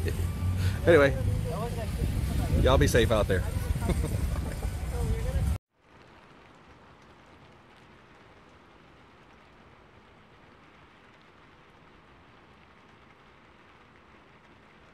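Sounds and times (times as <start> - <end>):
low hiss: 0.0 - 14.9.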